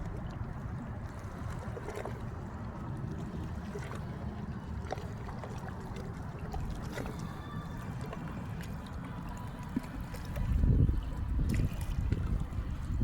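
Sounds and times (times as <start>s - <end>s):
steady low rumble: 0.0s - 13.0s
water lapping and trickling: 0.0s - 13.0s
water splashes and drips: 0.0s - 13.0s.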